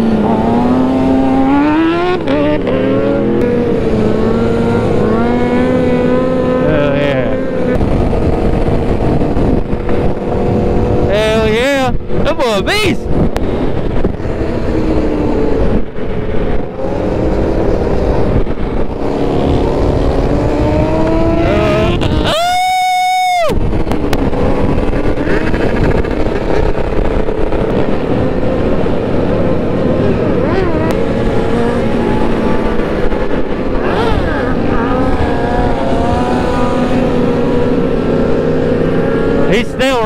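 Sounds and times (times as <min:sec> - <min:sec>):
motorcycle engines running: 0:00.0 - 0:40.0
motorcycle revving: 0:00.0 - 0:40.0.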